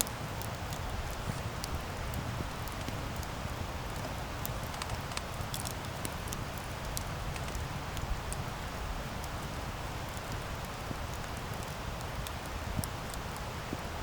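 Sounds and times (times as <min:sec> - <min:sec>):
burning wood crackling: 0:00.0 - 0:14.0
campfire flames rumbling: 0:00.0 - 0:14.0.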